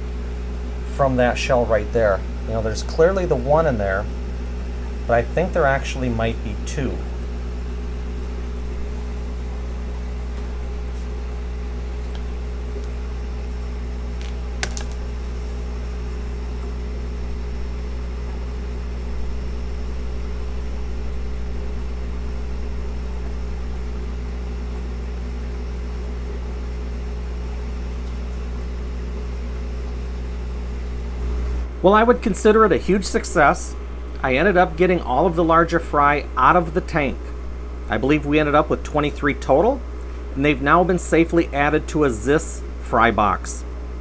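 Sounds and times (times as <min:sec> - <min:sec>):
aquarium equipment humming: 0:00.0 - 0:44.0.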